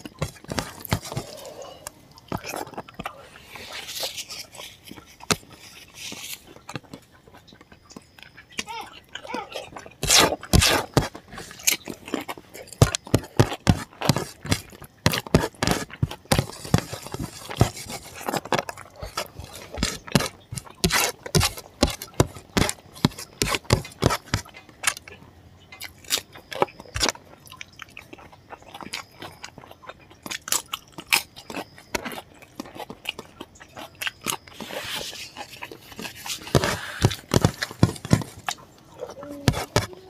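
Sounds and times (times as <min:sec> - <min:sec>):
chewing and mouth smacking: 0:00.0 - 0:40.0.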